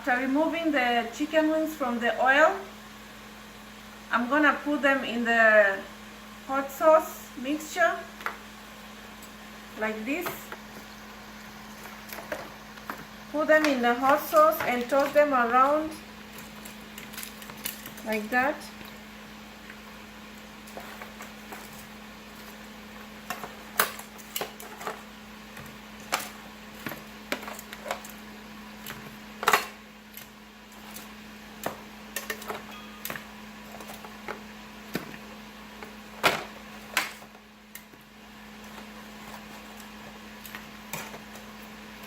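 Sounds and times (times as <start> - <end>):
steady hum: 0.0 - 42.0.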